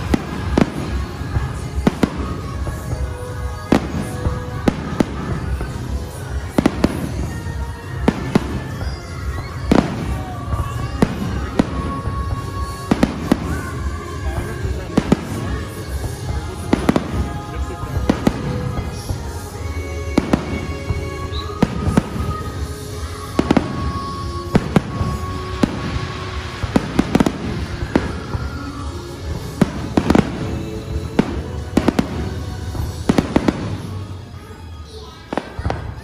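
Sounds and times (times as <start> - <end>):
fireworks bursting bangs: 0.0 - 36.0
music playing: 0.0 - 36.0.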